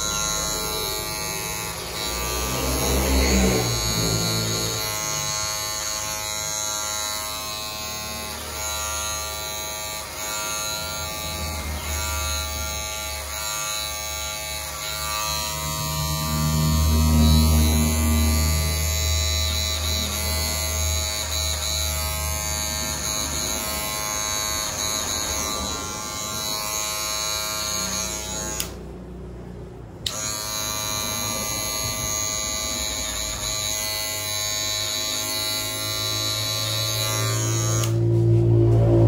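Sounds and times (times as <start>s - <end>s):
electric hair clippers buzzing: 0.0s - 39.0s.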